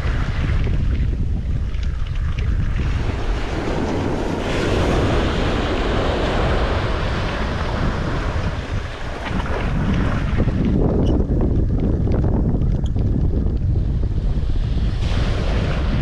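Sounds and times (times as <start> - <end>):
sea waves washing: 0.0 - 11.8, 13.6 - 16.0
wind buffeting microphone: 0.0 - 16.0.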